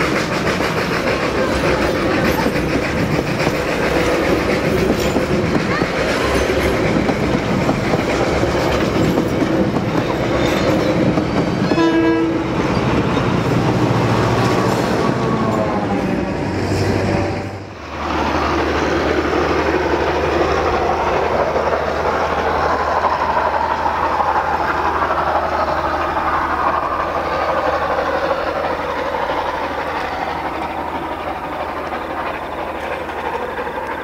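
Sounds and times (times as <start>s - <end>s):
diesel locomotive passing: 0.0s - 34.0s
train engine drone: 0.0s - 34.0s
wheel-on-rail noise: 0.0s - 34.0s.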